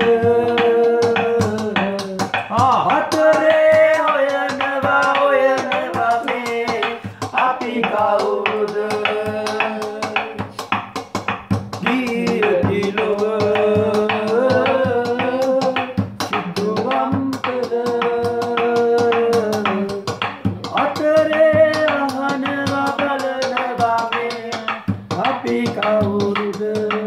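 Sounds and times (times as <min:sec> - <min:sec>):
man singing a slow song: 0:00.0 - 0:10.6, 0:11.8 - 0:27.0
steady drum-like beat: 0:00.0 - 0:27.0.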